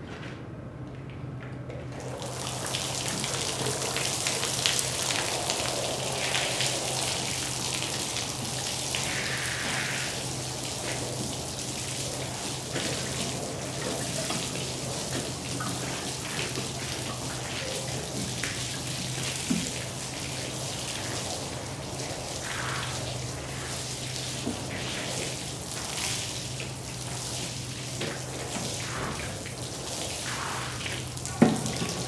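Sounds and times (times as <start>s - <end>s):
low machine hum: 0.0s - 32.0s
water spraying onto a rug: 1.9s - 32.0s.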